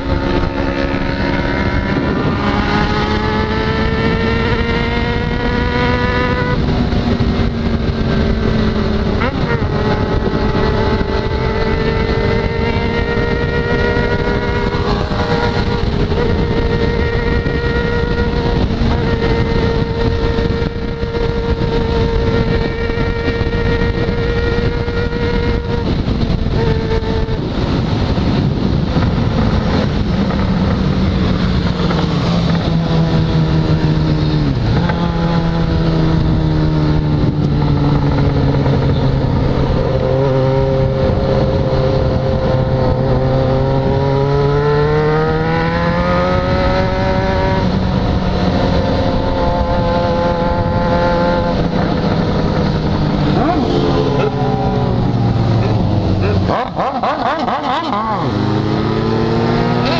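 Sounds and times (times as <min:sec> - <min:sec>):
motorcycle engine cruising: 0:00.0 - 0:59.9
wind and road rush: 0:00.0 - 0:59.9.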